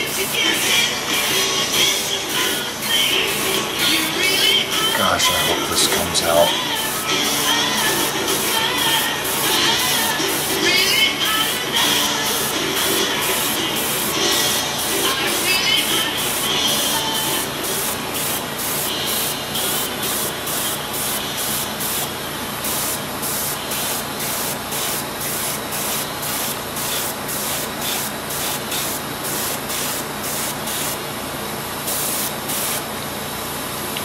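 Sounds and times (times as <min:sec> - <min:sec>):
airbrush hissing bursts: 0:02.0 - 0:31.0, 0:31.9 - 0:32.8.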